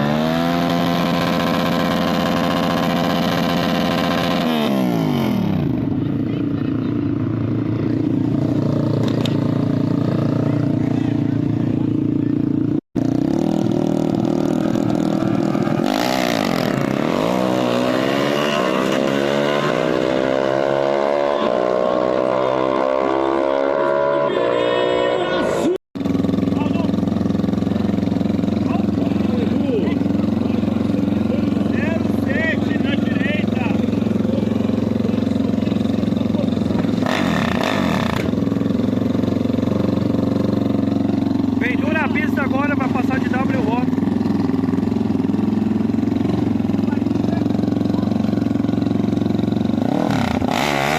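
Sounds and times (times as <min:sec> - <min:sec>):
motorcycle engine accelerating hard: 0:00.0 - 0:50.9.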